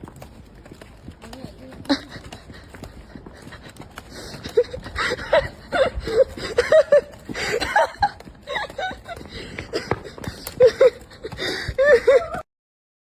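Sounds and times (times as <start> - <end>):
men laughing: 1.6 - 12.4.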